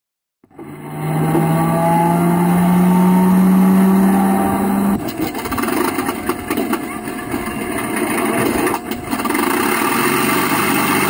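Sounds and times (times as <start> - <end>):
simulated engine whine rising in pitch: 0.4 - 11.0.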